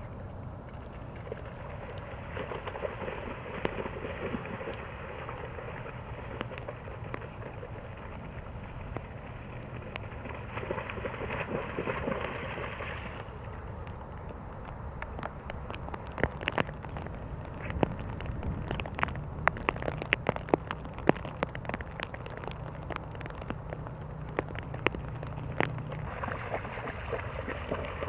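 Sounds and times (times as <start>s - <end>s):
rain falling on water: 0.0s - 28.0s
dogs splashing through water: 0.7s - 14.0s, 15.1s - 28.0s.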